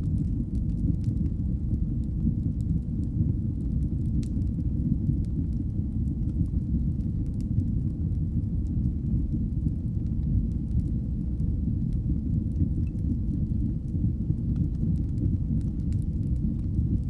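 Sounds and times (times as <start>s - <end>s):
fire burning with low rumble: 0.0s - 17.0s
fire crackles and pops: 0.0s - 17.0s.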